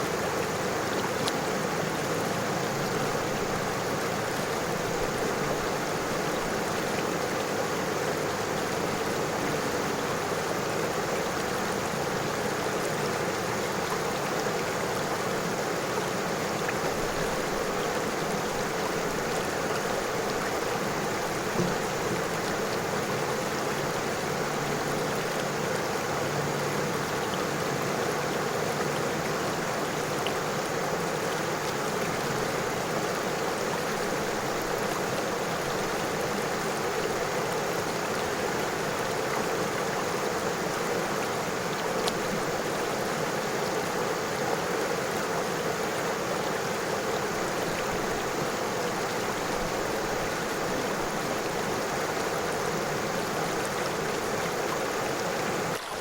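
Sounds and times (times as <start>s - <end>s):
river water rushing over stones: 0.0s - 56.0s.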